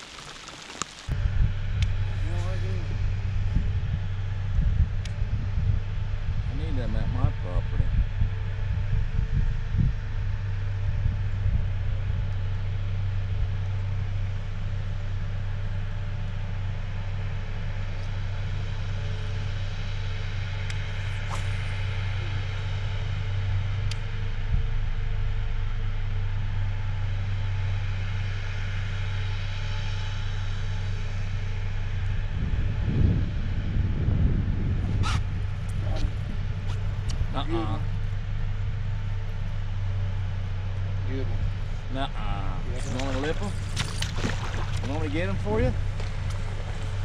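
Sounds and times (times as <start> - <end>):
electric trolling motor humming: 0.0 - 47.0.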